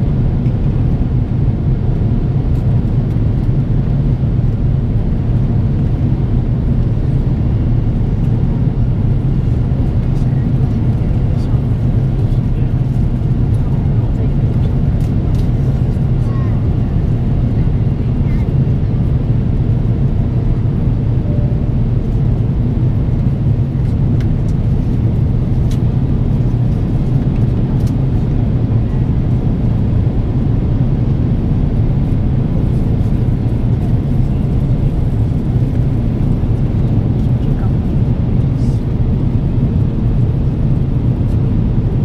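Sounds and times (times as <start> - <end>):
jet engine drone: 0.0 - 42.0.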